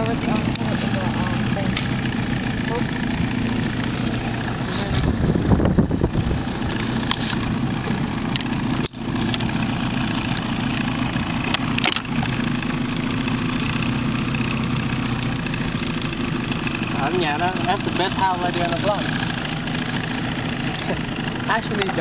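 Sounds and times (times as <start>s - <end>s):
fish drumming low drone: 0.0s - 21.6s.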